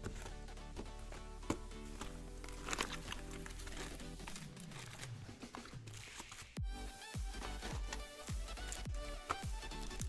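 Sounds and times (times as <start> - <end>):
card wrapper crinkling: 0.0 - 6.6, 7.3 - 10.0
background music: 0.0 - 10.0.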